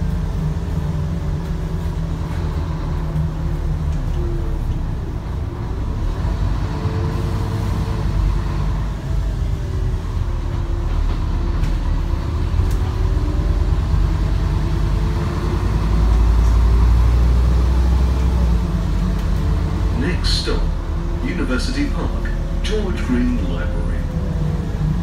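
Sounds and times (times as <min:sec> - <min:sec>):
bus engine rumble: 0:00.0 - 0:25.0
faint engine whine: 0:00.0 - 0:25.0.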